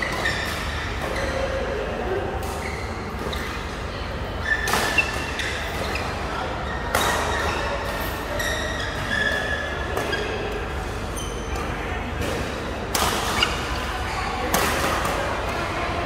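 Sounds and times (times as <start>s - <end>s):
shoes squeaking on court: 0.0s - 1.6s, 2.4s - 15.5s.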